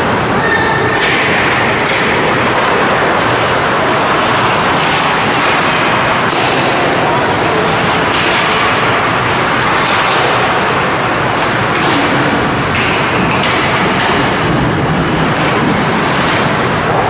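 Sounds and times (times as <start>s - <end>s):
steady loud rush of rink noise: 0.0s - 17.0s
skates and sticks scraping ice: 1.0s - 17.0s.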